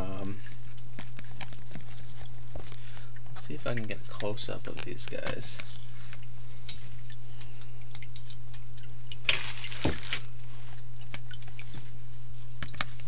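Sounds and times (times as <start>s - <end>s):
aquarium equipment humming: 0.0s - 13.0s.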